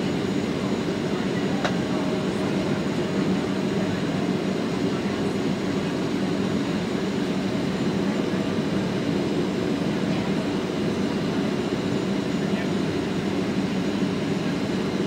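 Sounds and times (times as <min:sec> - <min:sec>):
jet engine cabin drone: 0:00.0 - 0:15.0.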